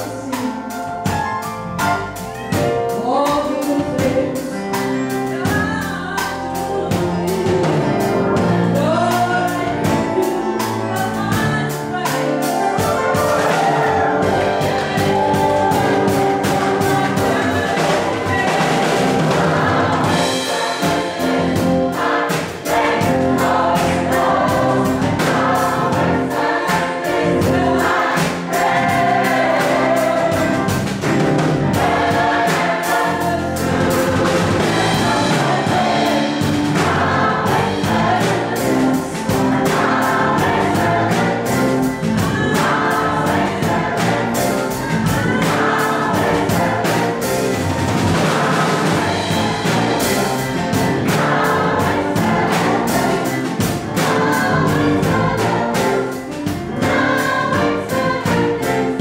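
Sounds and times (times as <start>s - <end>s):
band with steady drum beat: 0.0s - 59.0s
gospel choir singing: 0.0s - 59.0s.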